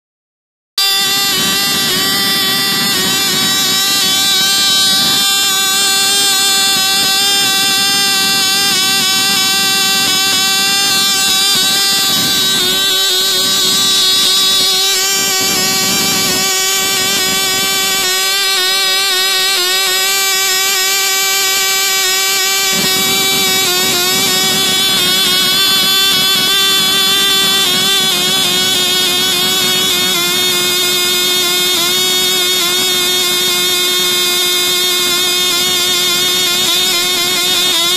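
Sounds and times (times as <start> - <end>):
model engine high-pitched buzz: 0.8 - 37.9.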